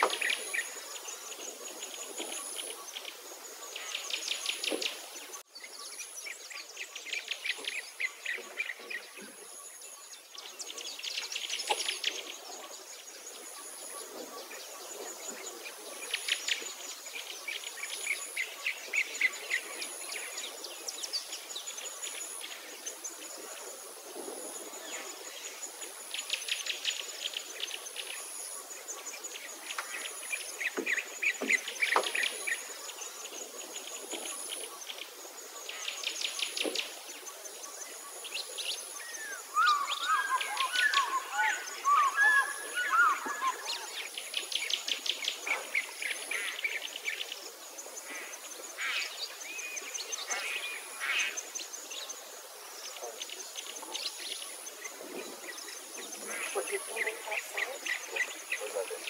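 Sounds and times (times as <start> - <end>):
birds singing and trilling: 0.0 - 59.0.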